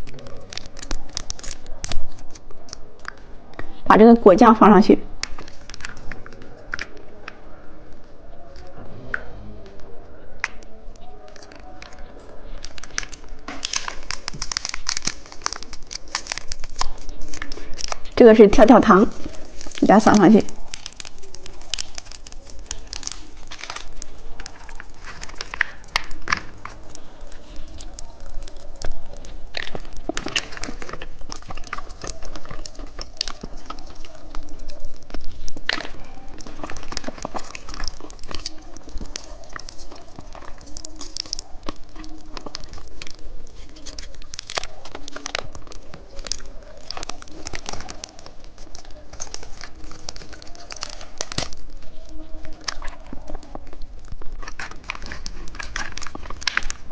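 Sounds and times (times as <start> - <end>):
plastic wrappers crinkling: 0.0 - 56.9.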